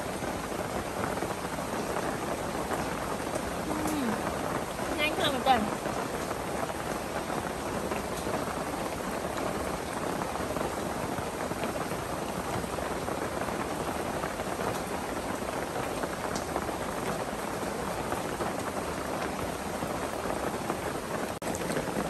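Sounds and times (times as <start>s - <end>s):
rain-like hiss: 0.0s - 22.0s.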